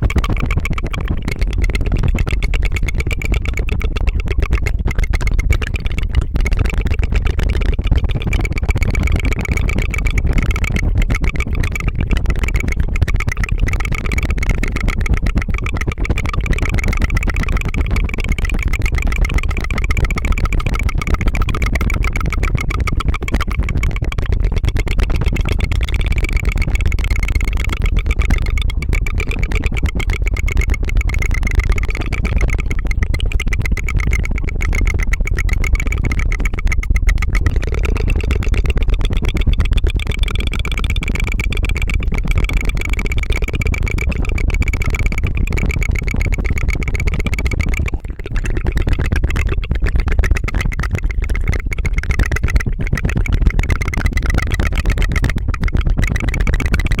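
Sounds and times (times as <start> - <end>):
tongue fluttering: 0.0 - 57.0.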